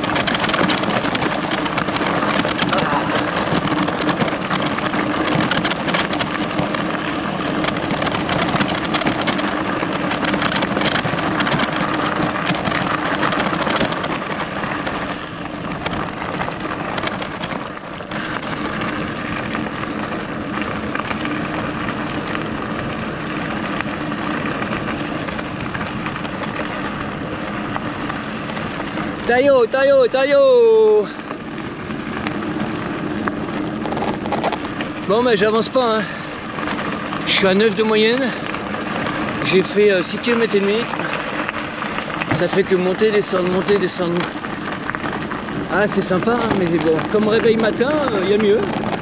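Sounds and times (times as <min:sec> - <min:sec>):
bicycle tyres on track: 0:00.0 - 0:49.0.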